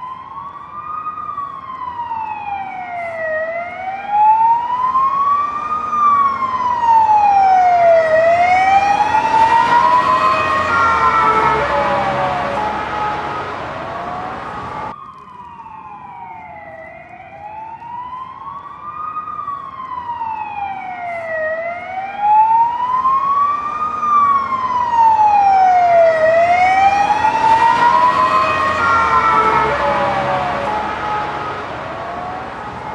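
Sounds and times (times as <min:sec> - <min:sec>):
ambulance siren wailing: 0:00.0 - 0:32.9
road noise: 0:00.0 - 0:32.9.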